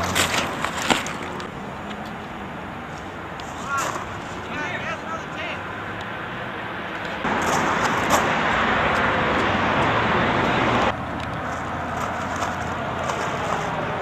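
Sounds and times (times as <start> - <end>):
skate wheels rolling on pavement: 0.0 - 14.0.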